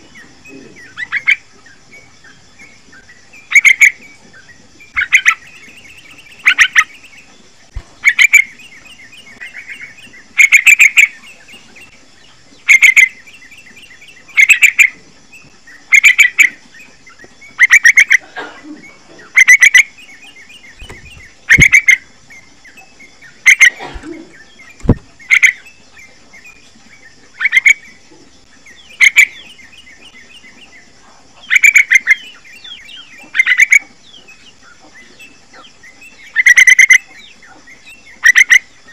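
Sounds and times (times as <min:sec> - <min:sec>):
bird chattering calls: 0:00.0 - 0:01.5, 0:03.4 - 0:04.1, 0:04.9 - 0:07.3, 0:08.0 - 0:11.9, 0:12.6 - 0:15.0, 0:15.7 - 0:25.7, 0:28.6 - 0:38.9
high insect drone: 0:00.0 - 0:38.9.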